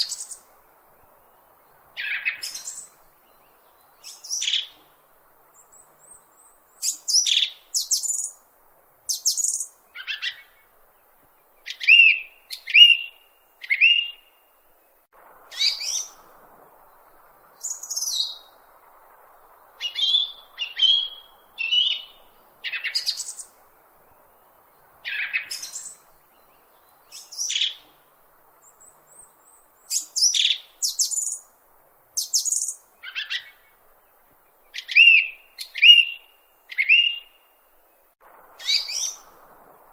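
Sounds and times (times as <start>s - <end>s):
bird chirping: 0.0s - 8.4s, 9.1s - 31.5s, 32.2s - 39.8s.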